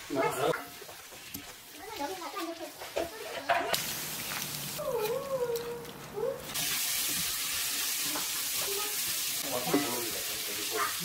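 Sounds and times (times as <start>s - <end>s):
food sizzling in frying pan: 0.0s - 5.2s, 6.3s - 11.0s.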